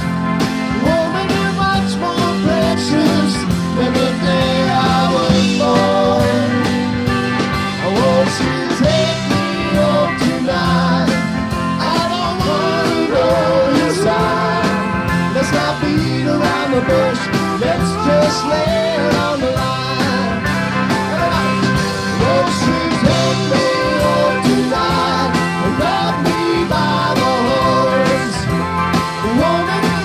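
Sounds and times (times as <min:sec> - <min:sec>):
country rock band playing: 0:00.0 - 0:30.0.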